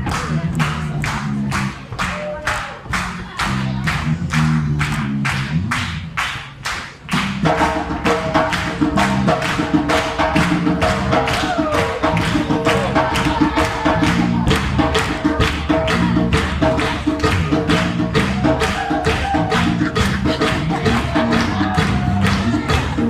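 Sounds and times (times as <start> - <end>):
live band with bass and hand percussion: 0.0 - 23.0.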